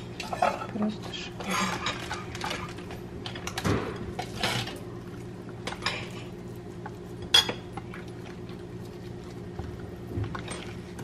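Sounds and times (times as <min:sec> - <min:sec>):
cabbage leaves rolled on plate: 0:00.2 - 0:11.0.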